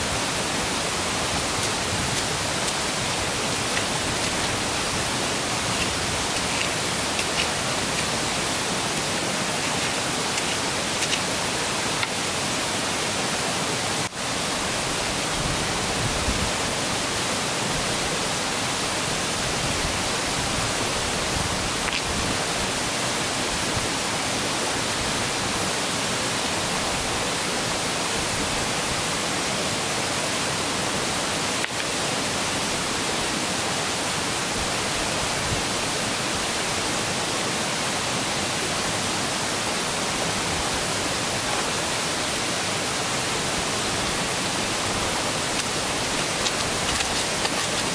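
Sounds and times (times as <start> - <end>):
river rushing: 0.0 - 47.9.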